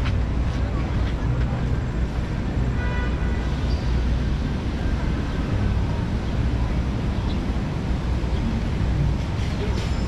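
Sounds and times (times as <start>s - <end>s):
passing vehicles: 0.0s - 10.0s.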